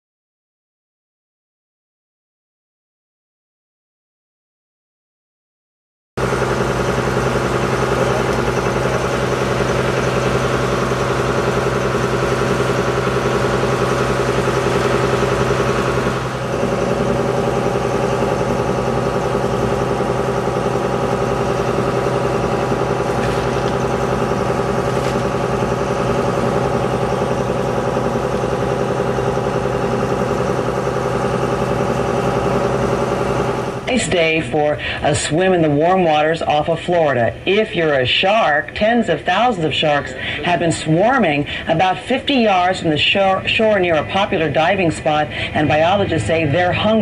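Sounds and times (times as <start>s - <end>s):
boat engine humming: 6.2s - 35.9s, 36.9s - 47.0s.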